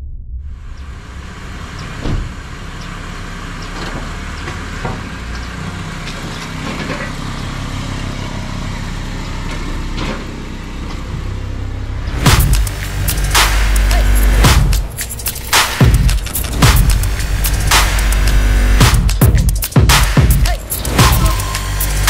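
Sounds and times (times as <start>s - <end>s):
car engine idling: 0.4s - 22.0s.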